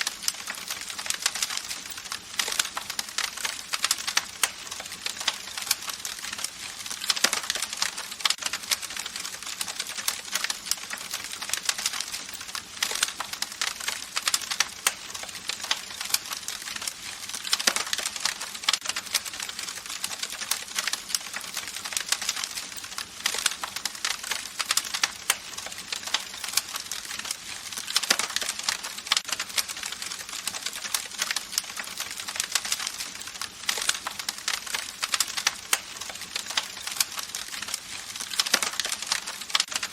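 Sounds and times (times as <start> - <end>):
campfire crackling and popping: 0.0 - 39.9
steady fire hiss: 0.0 - 39.9.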